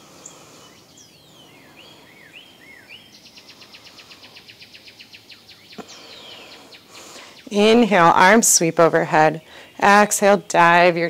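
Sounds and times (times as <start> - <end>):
bird chirping: 0.2 - 10.9.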